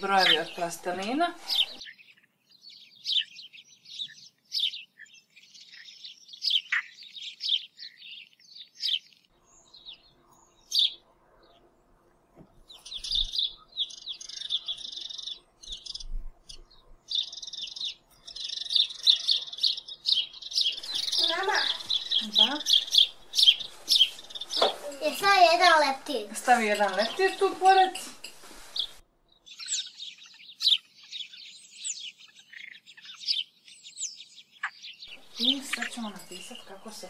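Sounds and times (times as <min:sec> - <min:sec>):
small bird chirping: 0:00.0 - 0:11.7, 0:12.6 - 0:37.0.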